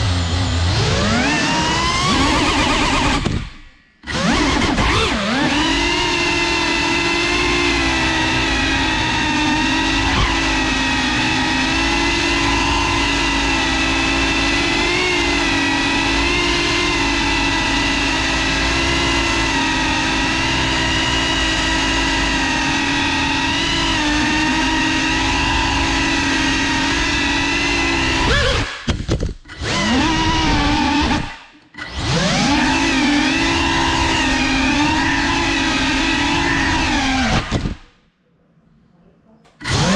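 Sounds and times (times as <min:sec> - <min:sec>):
drone motors buzzing: 0:00.0 - 0:38.0, 0:39.5 - 0:39.9.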